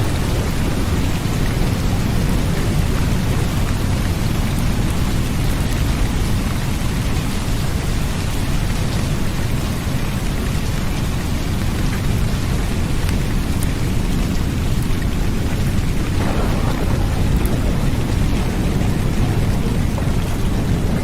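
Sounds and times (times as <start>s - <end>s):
low rumble of thunder: 0.0s - 8.1s, 10.8s - 21.0s
heavy rain: 0.0s - 21.0s.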